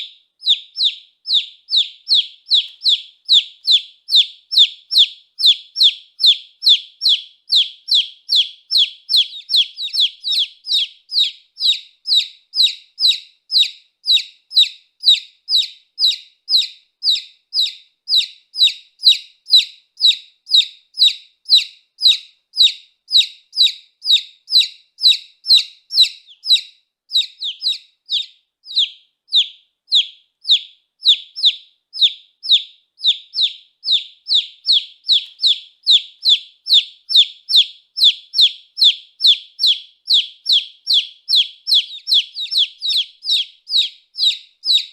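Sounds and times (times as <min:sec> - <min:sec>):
baby chick peeping: 0:00.0 - 0:44.9.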